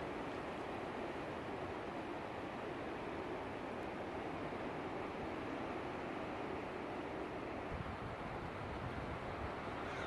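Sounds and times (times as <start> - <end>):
strong gusty wind: 0.0 - 10.0.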